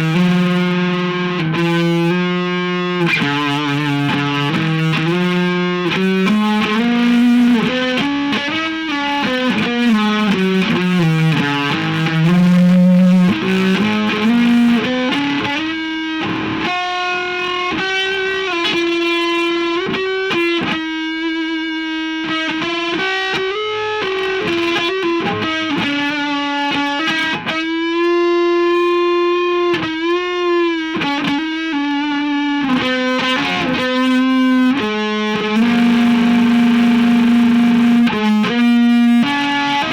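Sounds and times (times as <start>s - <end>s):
distorted electric guitar lead: 0.0s - 39.9s.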